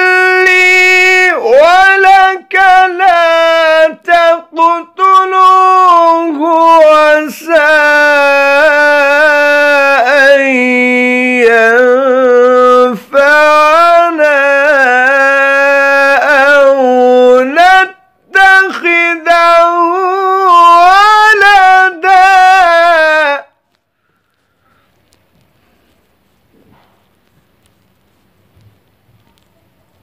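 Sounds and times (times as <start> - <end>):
man reciting melodically: 0.0 - 25.2.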